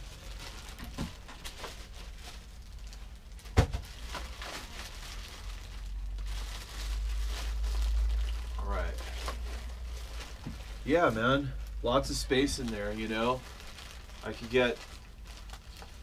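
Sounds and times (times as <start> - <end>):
plastic packaging rustling: 0.0 - 16.0.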